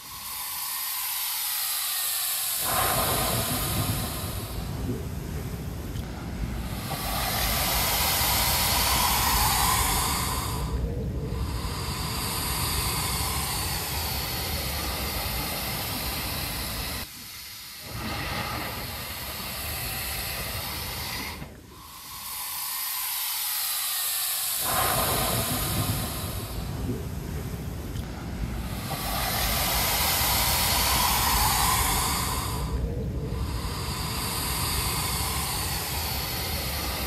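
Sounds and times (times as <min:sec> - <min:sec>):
blowhole hissing and whooshing: 0:00.0 - 0:37.0.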